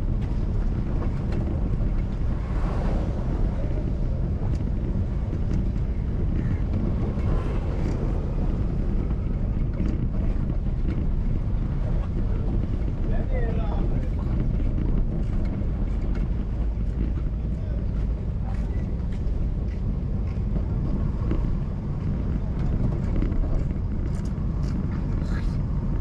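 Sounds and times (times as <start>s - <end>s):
moving car rumble: 0.0s - 26.0s
wind buffeting microphone: 0.0s - 26.0s.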